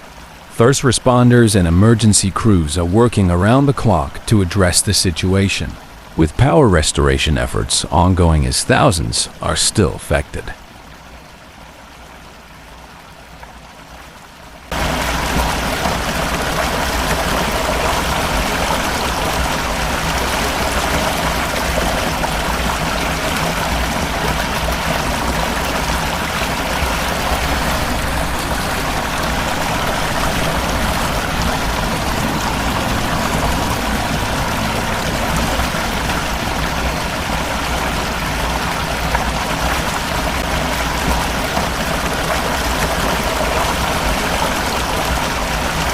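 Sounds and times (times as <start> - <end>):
floodwater rushing: 0.0 - 45.9.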